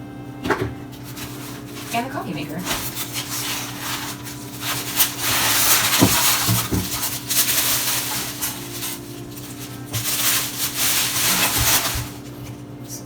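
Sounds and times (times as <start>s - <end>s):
packaging rustling: 1.0s - 12.5s.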